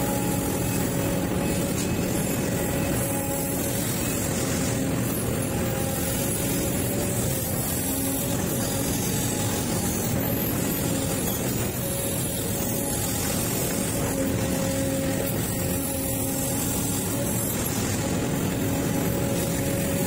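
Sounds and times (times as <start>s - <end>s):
steady whine: 0.0s - 20.0s.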